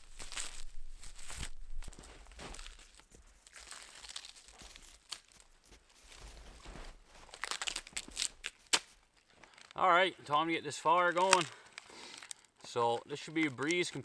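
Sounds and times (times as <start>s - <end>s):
sharp crackles: 0.0s - 14.0s
snow and wood crunching: 0.0s - 14.0s.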